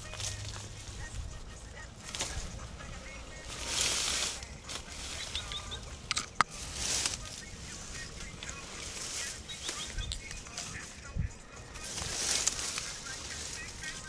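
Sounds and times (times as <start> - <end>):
dry reeds rustling: 0.0 - 14.0.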